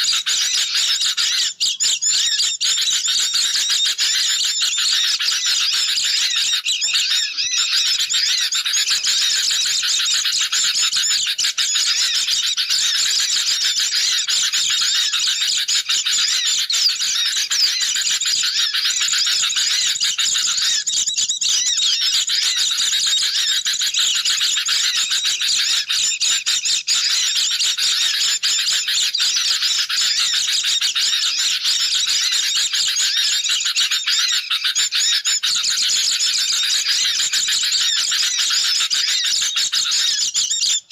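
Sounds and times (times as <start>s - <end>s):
birds chattering and trilling: 0.0s - 40.9s.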